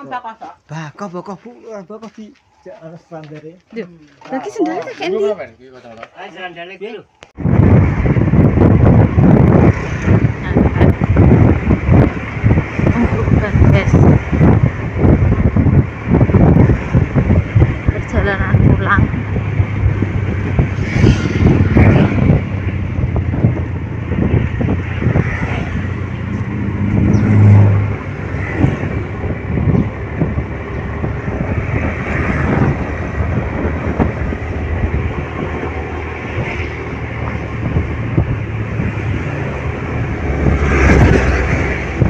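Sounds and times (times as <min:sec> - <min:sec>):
wind noise on microphone: 0:07.1 - 0:42.0.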